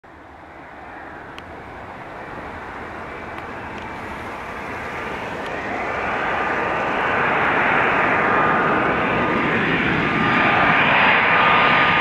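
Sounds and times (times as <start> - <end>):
jet engines rushing with whine: 0.0 - 12.0.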